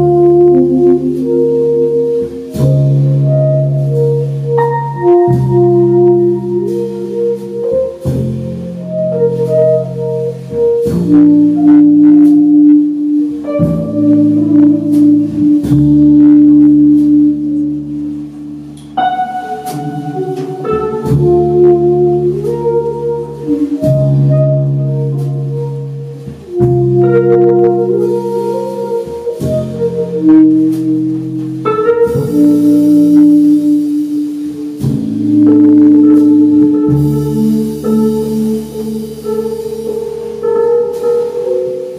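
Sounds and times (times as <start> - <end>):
double bass: 0.0 - 41.9
drums: 0.0 - 41.9
keyboard chords: 0.0 - 41.9
saxophone: 0.0 - 41.9.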